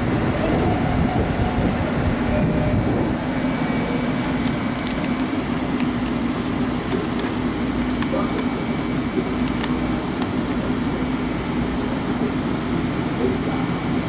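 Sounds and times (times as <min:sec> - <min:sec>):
constant hum: 0:00.0 - 0:14.0
electric train rumbling: 0:00.0 - 0:14.0.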